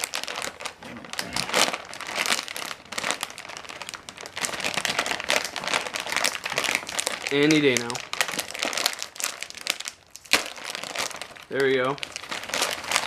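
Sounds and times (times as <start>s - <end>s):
plastic chip bag crinkling: 0.0s - 13.0s.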